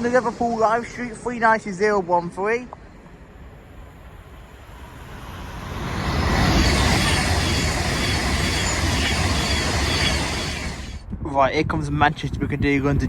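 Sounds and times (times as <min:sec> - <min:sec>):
electric train passing: 0:00.0 - 0:11.2.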